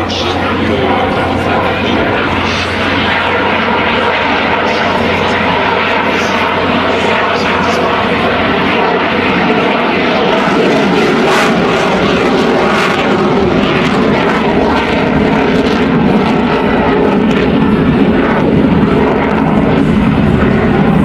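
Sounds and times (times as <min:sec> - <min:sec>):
fighter jet engine noise: 0:00.0 - 0:21.0.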